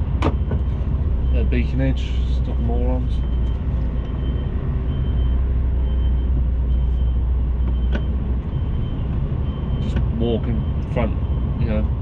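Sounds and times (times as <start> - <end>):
lorry diesel engine running: 0.0 - 12.0
reversing alarm beeping: 0.1 - 12.0.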